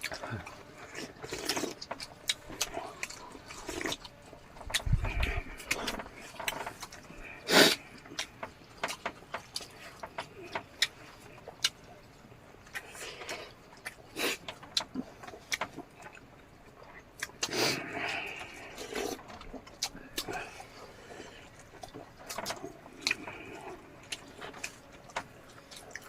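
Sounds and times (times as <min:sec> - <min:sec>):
chewing: 0:00.0 - 0:26.0
food crunching: 0:00.0 - 0:26.0.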